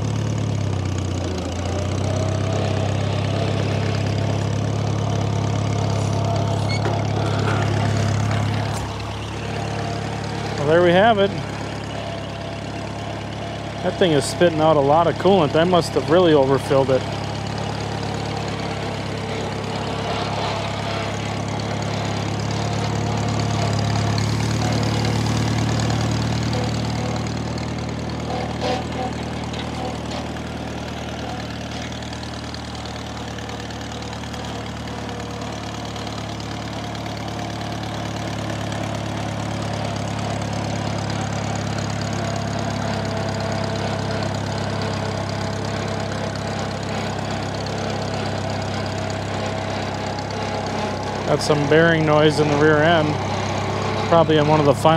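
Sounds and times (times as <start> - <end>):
small engine idling: 0.0 - 54.9.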